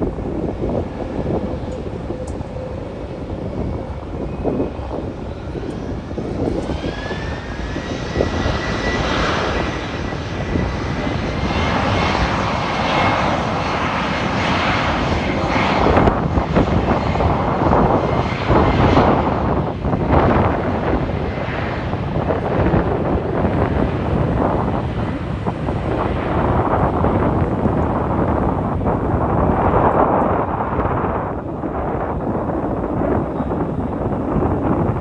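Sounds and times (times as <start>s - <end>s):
jet engine rumble: 0.0s - 35.0s.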